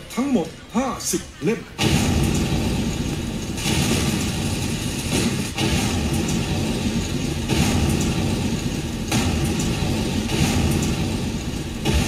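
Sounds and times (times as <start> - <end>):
explosion sound effects over speakers: 1.8 - 12.0.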